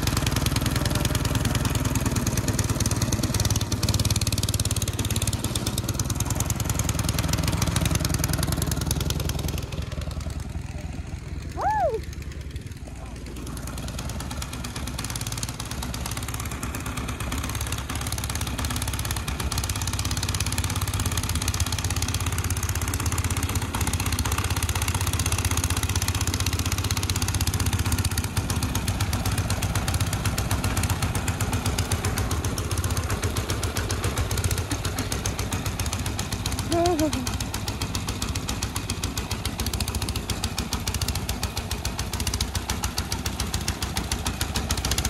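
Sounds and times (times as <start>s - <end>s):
snow blower engine running: 0.0s - 45.0s.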